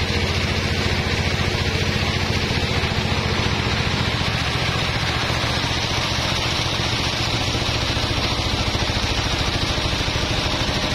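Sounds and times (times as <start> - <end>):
sawmill engine droning: 0.0 - 10.9.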